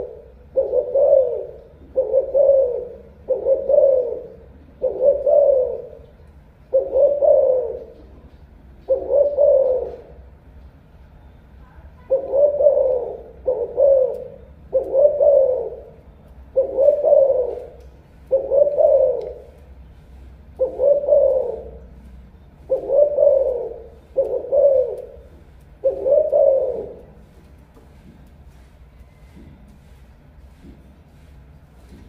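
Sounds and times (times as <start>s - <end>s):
dove cooing: 0.0s - 10.4s, 12.0s - 27.4s.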